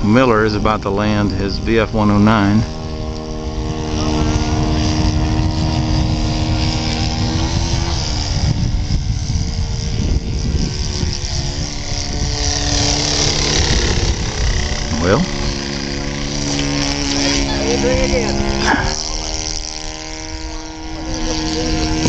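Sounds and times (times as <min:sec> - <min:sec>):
model airplane engine running: 0:00.0 - 0:22.0.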